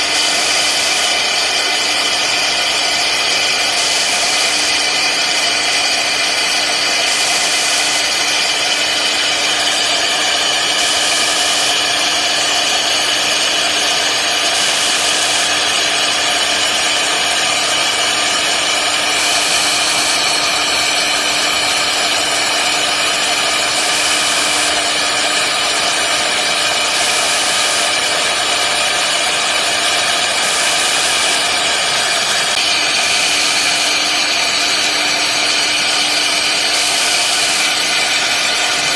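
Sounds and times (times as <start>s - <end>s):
cutting hiss: 0.0s - 38.9s
router spindle whine: 0.0s - 38.9s.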